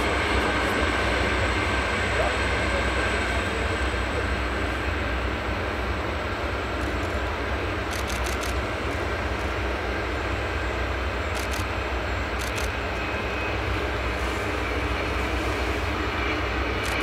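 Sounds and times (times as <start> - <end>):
jet engine whine and rumble: 0.0 - 17.0.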